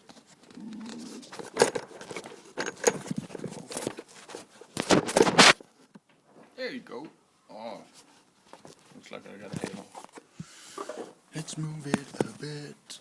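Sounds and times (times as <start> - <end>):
handling noise on phone microphone: 0.0 - 6.6, 7.9 - 12.5.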